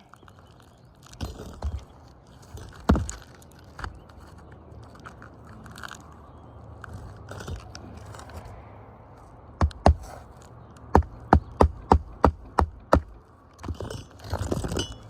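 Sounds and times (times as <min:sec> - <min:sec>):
shingles scraping and crunching: 0:00.0 - 0:15.0.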